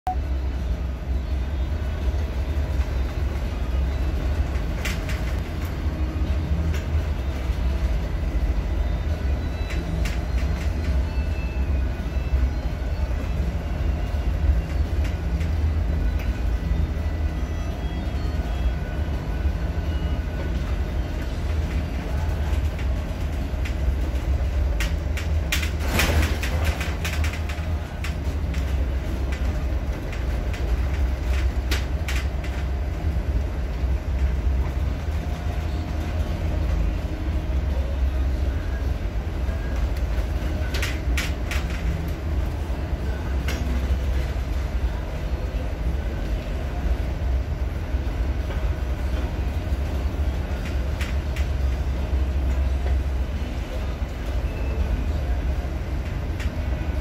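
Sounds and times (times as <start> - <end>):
ship engine low rumble: 0.0 - 57.0.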